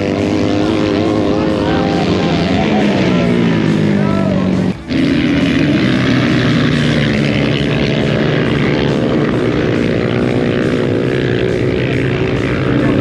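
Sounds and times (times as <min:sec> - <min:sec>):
racing motorcycle engine drone: 0:00.0 - 0:13.0.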